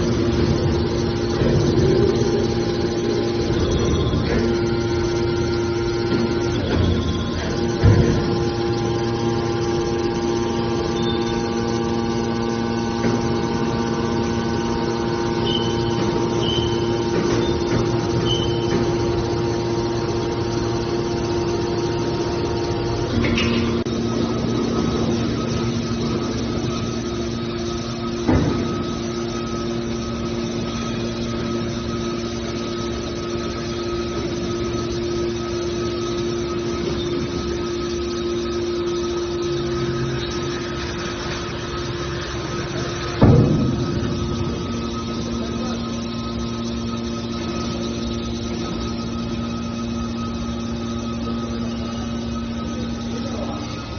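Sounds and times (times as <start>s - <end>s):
can baler motor hum: 0.0s - 53.9s.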